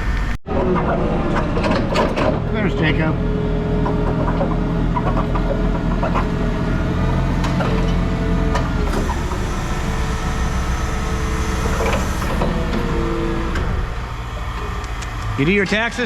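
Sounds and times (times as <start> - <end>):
vehicle engine rumbling: 0.0 - 15.5.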